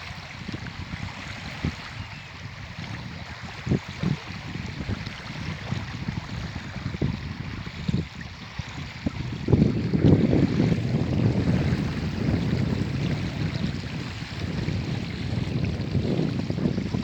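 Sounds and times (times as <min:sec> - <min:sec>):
steady rush of wind: 0:00.0 - 0:17.0
water lapping at shore: 0:00.0 - 0:17.0
wind buffeting microphone: 0:00.0 - 0:17.0.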